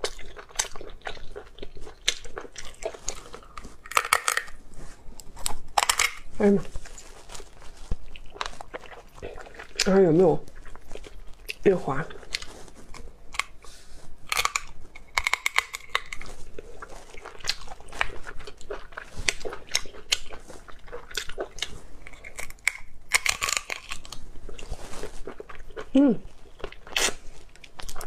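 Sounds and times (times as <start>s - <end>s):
wet chewing and smacking: 0.0s - 4.6s, 5.2s - 28.0s.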